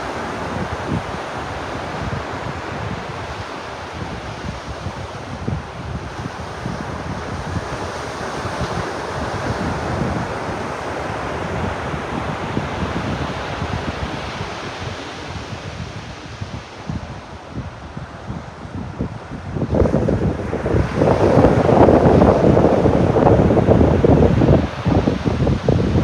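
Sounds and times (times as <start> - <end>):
ocean surf washing onto beach: 0.0 - 26.0
wind buffeting microphone: 0.0 - 26.0.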